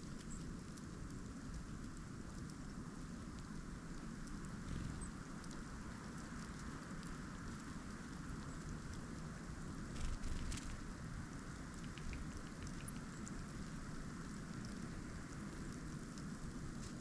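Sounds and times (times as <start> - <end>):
light ticks: 0.0 - 17.0
outdoor ambient hiss: 0.0 - 17.0.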